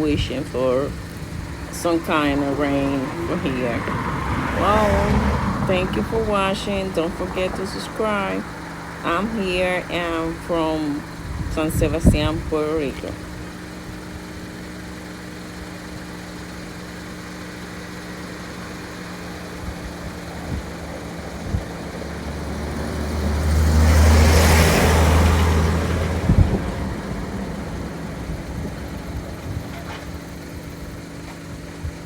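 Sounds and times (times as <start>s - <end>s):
steady engine hum: 0.0s - 32.0s
vehicle passing with rumble: 0.0s - 32.0s.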